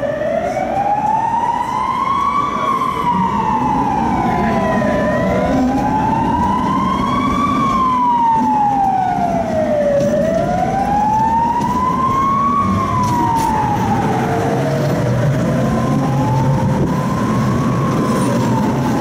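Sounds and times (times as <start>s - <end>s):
siren wailing: 0.0s - 19.0s
tram rumbling: 0.0s - 19.0s.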